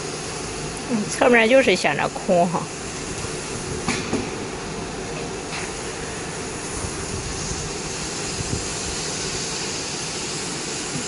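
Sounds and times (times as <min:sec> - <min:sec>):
laser cutting machine hissing and humming: 0:00.0 - 0:11.0.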